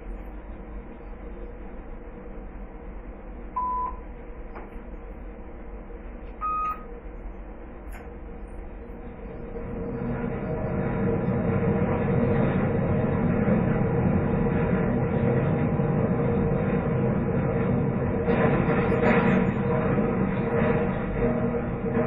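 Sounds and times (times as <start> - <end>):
crane machinery drone: 0.0 - 22.0.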